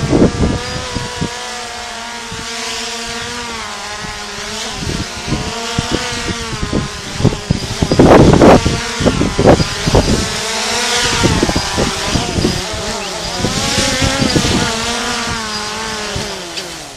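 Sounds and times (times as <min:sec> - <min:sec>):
drone propellers buzzing: 0:00.0 - 0:16.9
wind buffeting microphone: 0:00.0 - 0:16.9.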